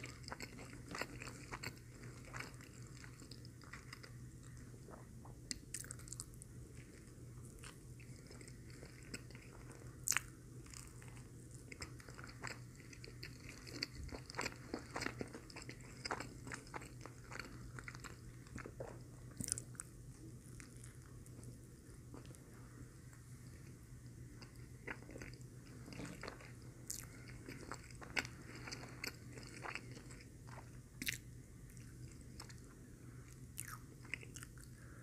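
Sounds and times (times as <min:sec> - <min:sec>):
chewing and biting sandwich: 0:00.0 - 0:19.9, 0:24.3 - 0:32.7, 0:33.3 - 0:34.8.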